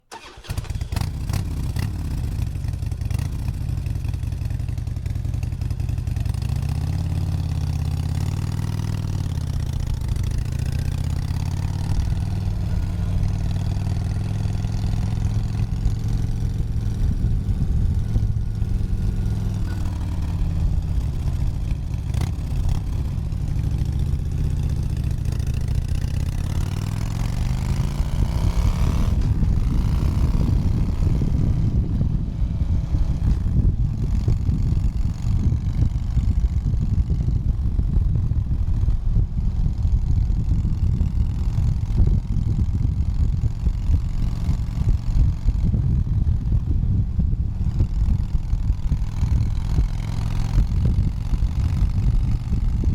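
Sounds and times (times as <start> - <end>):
motorcycle engine running: 0.1 - 52.9.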